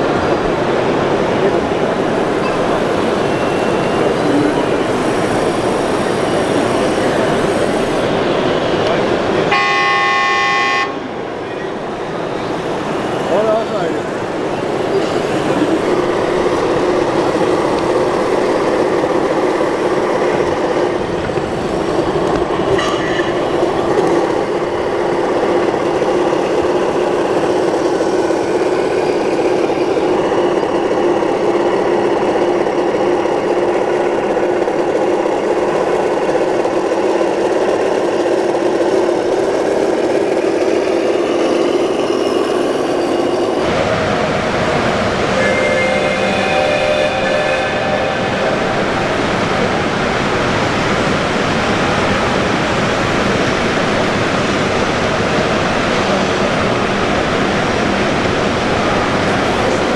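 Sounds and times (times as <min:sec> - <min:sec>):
model trucks diesel engine drone: 0:00.0 - 0:59.9.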